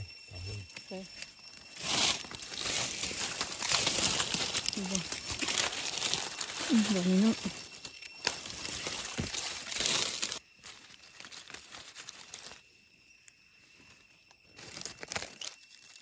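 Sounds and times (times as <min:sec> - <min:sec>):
dry leaves crackling and rustling: 0:01.5 - 0:12.7, 0:13.8 - 0:16.0.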